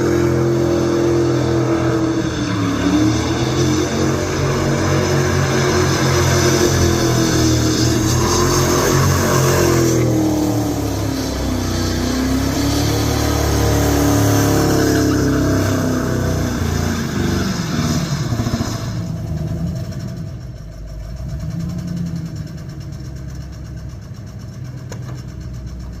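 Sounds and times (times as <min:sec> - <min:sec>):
vehicle engine revving and idling: 0:00.0 - 0:26.0.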